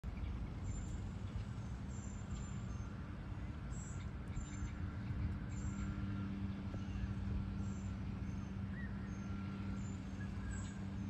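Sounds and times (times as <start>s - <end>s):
outdoor rumble: 0.0s - 11.0s.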